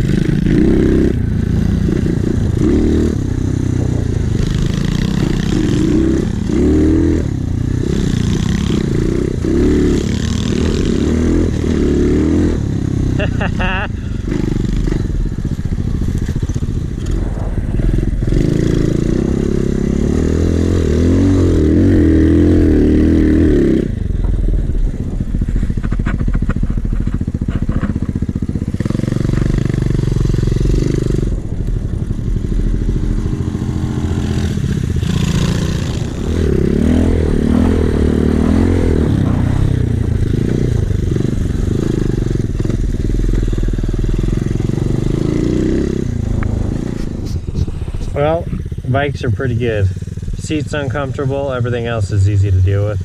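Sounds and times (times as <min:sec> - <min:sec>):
motorbike engine revving: 0:00.0 - 0:53.0.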